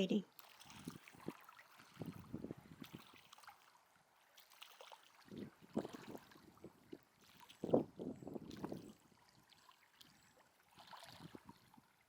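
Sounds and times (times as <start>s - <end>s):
small water splashes: 0.0s - 12.0s
water lapping and trickling: 0.0s - 12.0s.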